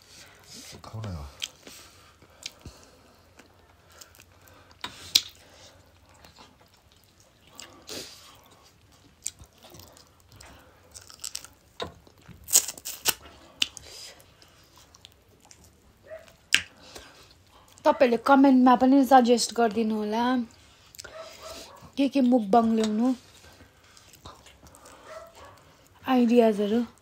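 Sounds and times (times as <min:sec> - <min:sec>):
chewing with crisp crunches: 0:00.9 - 0:17.9, 0:20.5 - 0:26.0.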